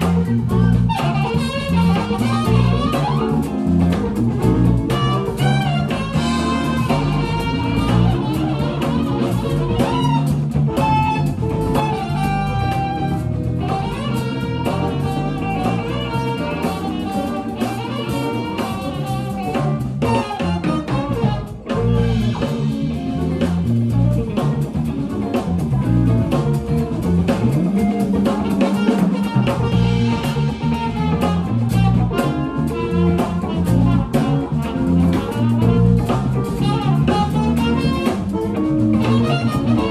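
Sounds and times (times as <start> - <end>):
busy low end bass: 0.0 - 39.9
drum kit: 0.0 - 39.9.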